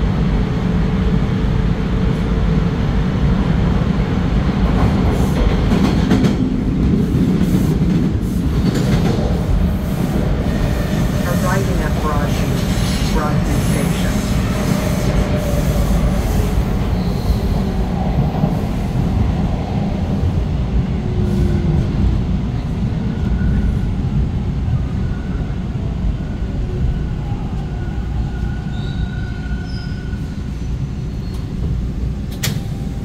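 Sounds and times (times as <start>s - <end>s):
subway train rumbling: 0.0s - 33.0s.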